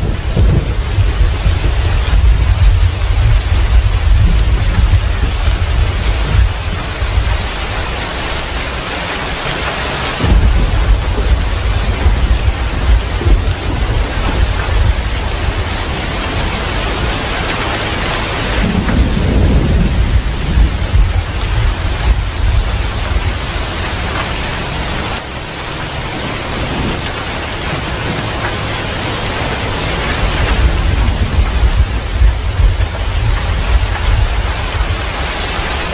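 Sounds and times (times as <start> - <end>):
rumble of thunder: 0.0 - 25.2, 26.2 - 35.9
heavy rain falling: 0.0 - 35.9.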